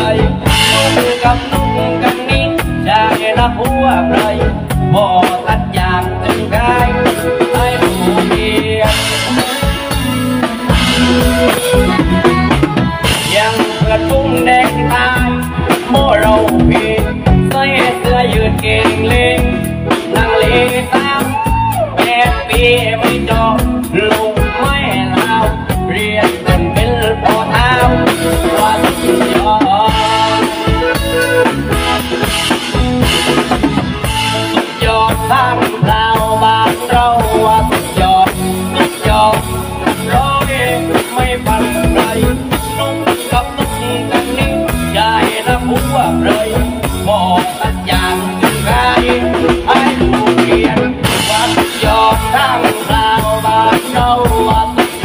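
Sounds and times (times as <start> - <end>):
driving drum beat: 0.0 - 55.0.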